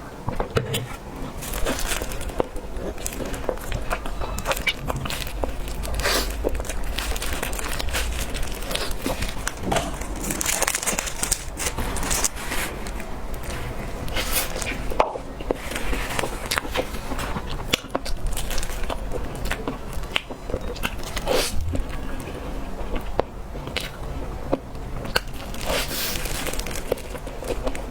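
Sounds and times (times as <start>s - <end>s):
biting and chewing cake: 0.4s - 27.9s.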